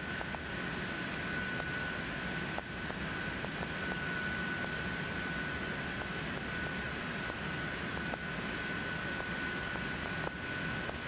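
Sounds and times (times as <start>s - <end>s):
airplane cabin engine noise: 0.0s - 11.0s
high engine whine: 0.0s - 11.0s.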